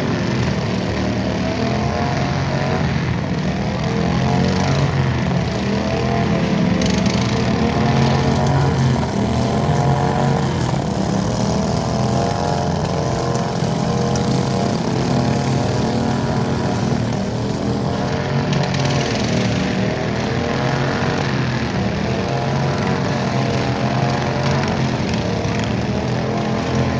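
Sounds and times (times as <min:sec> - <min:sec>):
garden tractor engine running: 0:00.0 - 0:26.9.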